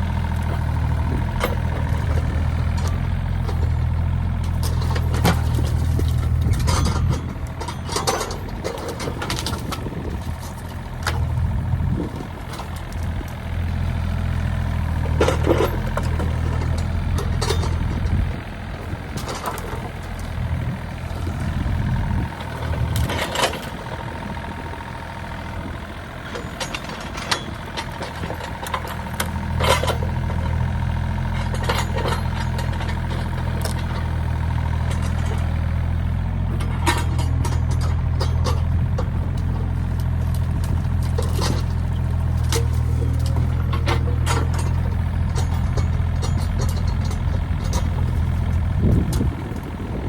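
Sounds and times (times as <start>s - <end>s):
engine humming: 0.0s - 50.0s.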